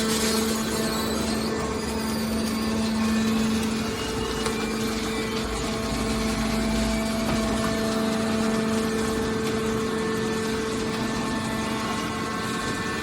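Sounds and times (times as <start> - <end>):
hydraulic power unit humming: 0.0 - 13.0.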